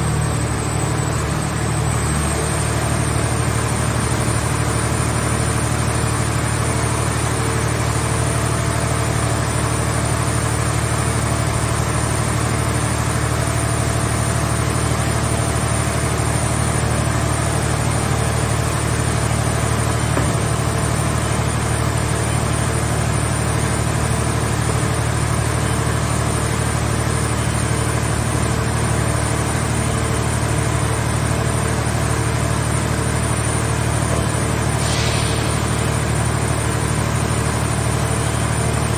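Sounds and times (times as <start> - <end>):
baler engine running steadily: 0.0 - 38.9.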